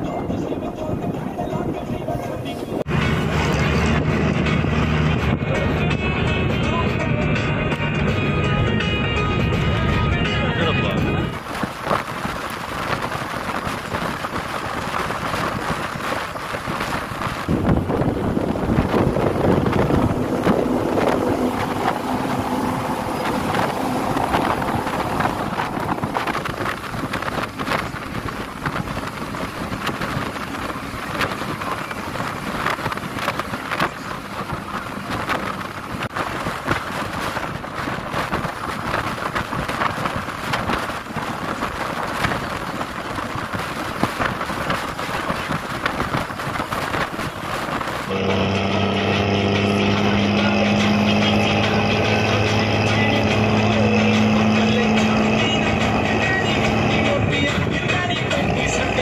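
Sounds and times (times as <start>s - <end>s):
bus engine: 0.0s - 59.0s
wind rushing over microphone: 0.0s - 59.0s
tyre noise on road: 11.1s - 59.0s.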